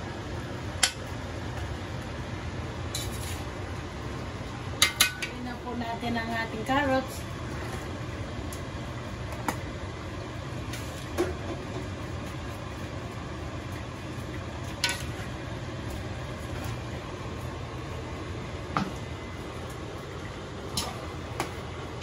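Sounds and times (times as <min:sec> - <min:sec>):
low kitchen hum: 0:00.0 - 0:22.0.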